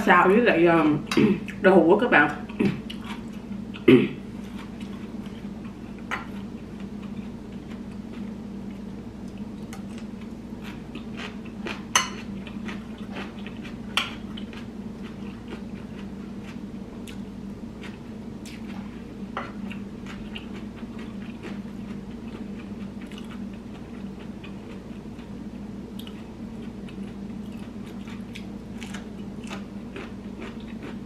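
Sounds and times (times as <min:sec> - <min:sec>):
steady low hum: 0:00.0 - 0:31.0
chewing and mouth sounds: 0:02.5 - 0:05.4, 0:06.2 - 0:25.3, 0:26.0 - 0:31.0.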